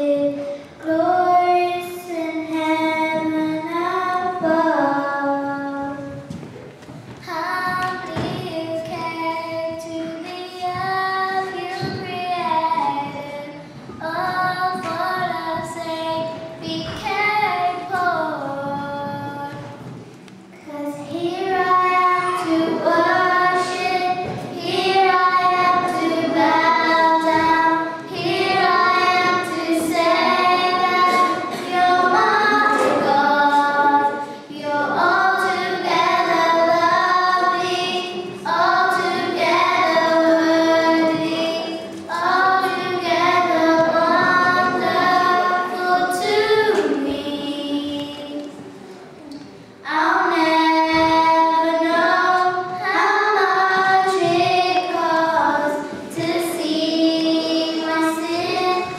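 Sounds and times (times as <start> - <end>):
girls singing a hymn: 0.0 - 58.9.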